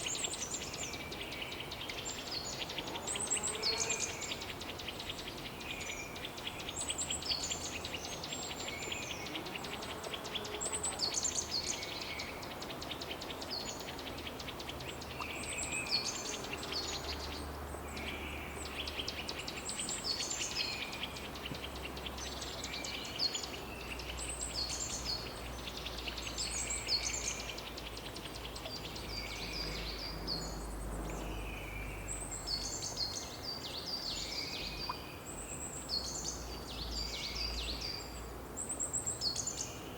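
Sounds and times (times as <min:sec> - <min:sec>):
outdoor ambience hiss: 0:00.0 - 0:39.9
songbird singing: 0:00.0 - 0:39.9.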